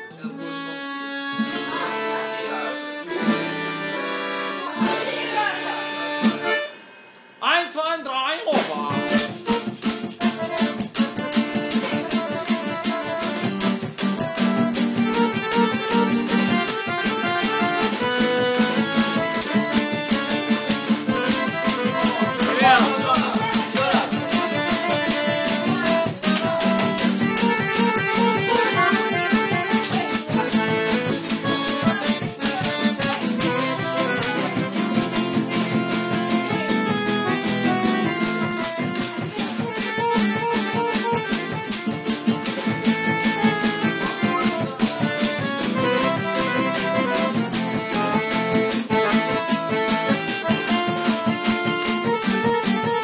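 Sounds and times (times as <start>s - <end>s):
jingling percussion beat: 4.8s - 53.0s
lively dance music: 7.4s - 50.8s.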